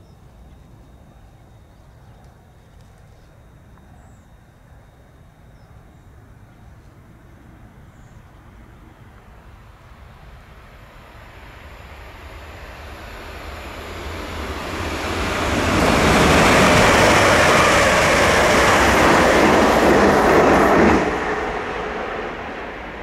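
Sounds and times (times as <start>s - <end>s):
train passing: 3.6s - 23.0s.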